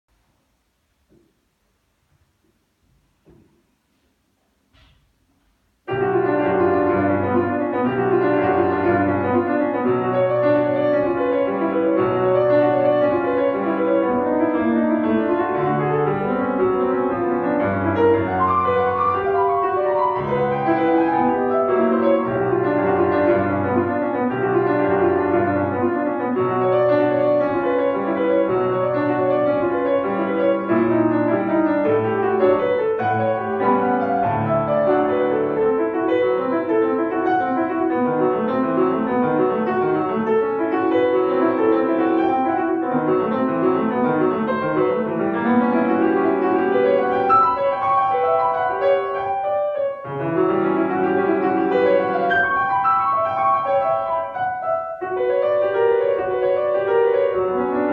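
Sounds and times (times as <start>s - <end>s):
solo piano playing classical piece: 0.1s - 57.9s.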